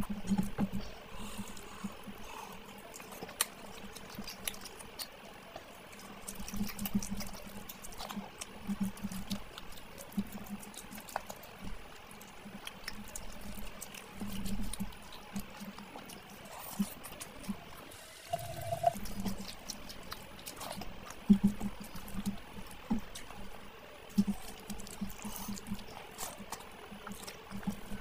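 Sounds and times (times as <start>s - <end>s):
sticky clicks and squelches: 0.0s - 17.8s, 19.0s - 28.0s
wet chewing and lip smacking: 0.0s - 28.0s.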